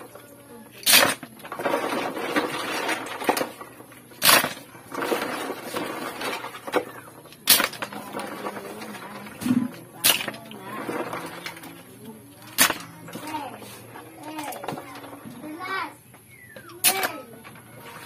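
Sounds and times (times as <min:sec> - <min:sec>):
water sloshing and clattering: 0:00.0 - 0:15.6, 0:16.8 - 0:18.0.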